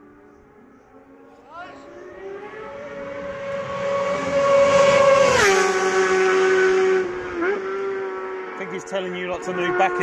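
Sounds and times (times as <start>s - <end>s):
racing motorcycle passing at speed: 0.0s - 10.0s.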